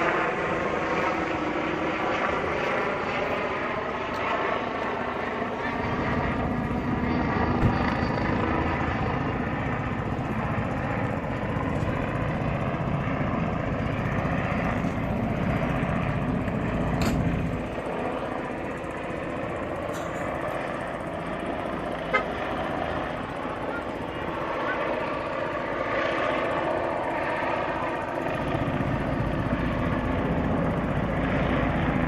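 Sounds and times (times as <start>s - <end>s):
helicopter rotor beat: 0.0s - 32.0s
helicopter turbine whine: 0.0s - 32.0s.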